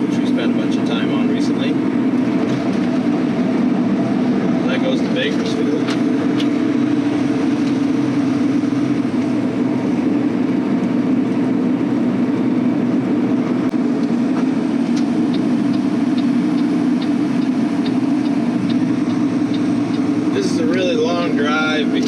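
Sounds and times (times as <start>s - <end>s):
road noise: 0.0s - 22.0s
truck diesel engine cruising: 0.0s - 22.0s.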